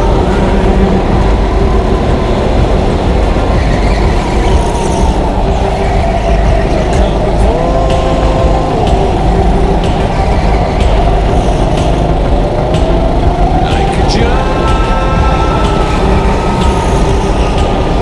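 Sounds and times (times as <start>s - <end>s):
go-kart motor and tyre noise: 0.0s - 18.0s
rising motor whine: 0.0s - 18.0s.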